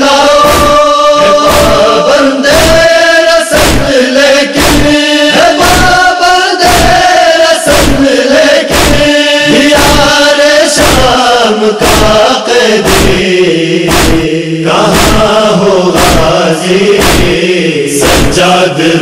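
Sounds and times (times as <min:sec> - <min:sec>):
men chanting together: 0:00.0 - 0:19.0
rhythmic chest-beating strikes: 0:00.0 - 0:19.0.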